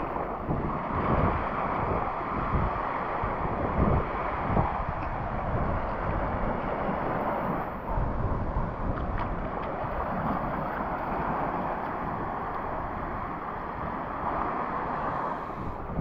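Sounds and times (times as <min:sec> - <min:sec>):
small waves breaking on sand: 0:00.0 - 0:16.0
wind rumble on microphone: 0:00.0 - 0:16.0.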